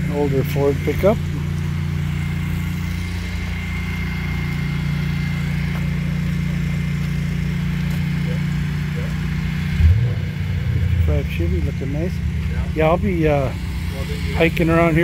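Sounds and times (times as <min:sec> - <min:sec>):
engine idling drone: 0:00.0 - 0:15.0.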